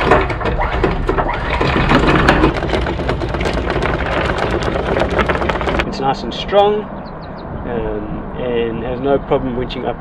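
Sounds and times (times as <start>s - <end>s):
windlass motor humming: 0.0s - 9.9s.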